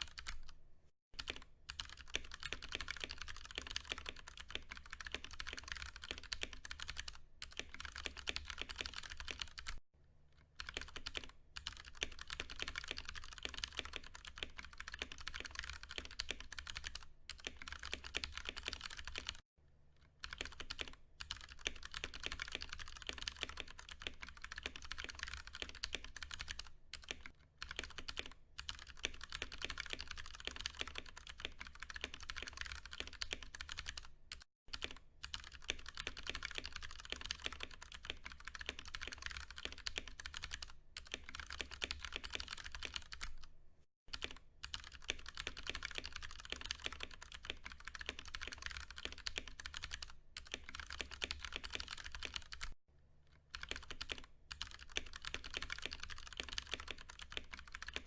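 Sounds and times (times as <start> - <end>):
fast mechanical keyboard typing: 0.0 - 0.6, 1.2 - 9.8, 10.6 - 19.4, 20.2 - 43.5, 44.1 - 52.8, 53.5 - 58.0.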